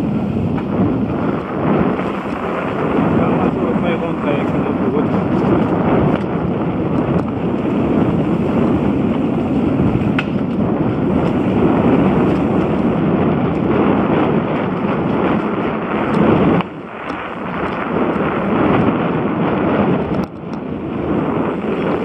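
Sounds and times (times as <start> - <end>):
bike tyres rumbling on dirt: 0.0 - 22.0
wind on microphone: 0.0 - 22.0.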